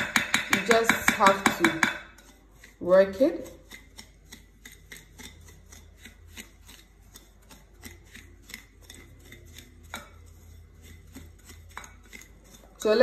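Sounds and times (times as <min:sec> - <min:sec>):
whisk scraping in glass bowl: 0:00.0 - 0:13.0.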